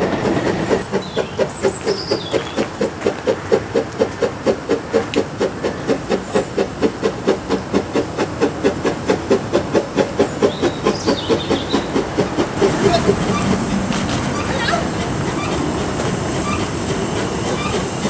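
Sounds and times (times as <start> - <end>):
steady hiss of steam: 0.0 - 18.0
steam locomotive chuffing: 0.0 - 18.0.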